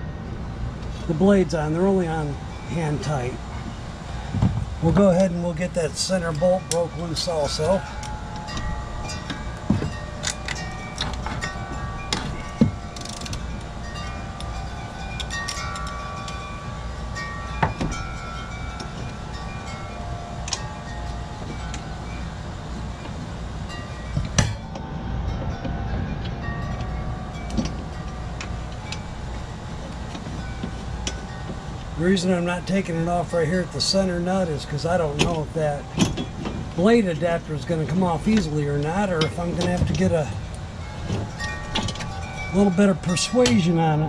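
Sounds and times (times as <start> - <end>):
low background rumble: 0.0 - 44.0
short ringing tones: 0.0 - 44.0.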